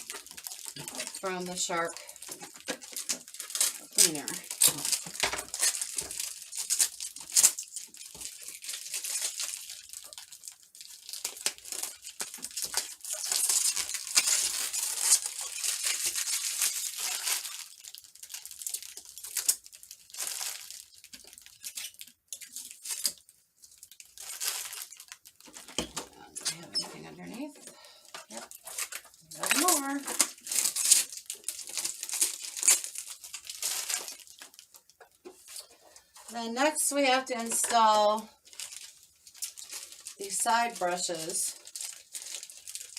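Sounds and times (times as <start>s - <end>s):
plastic film being peeled: 0.0s - 42.9s.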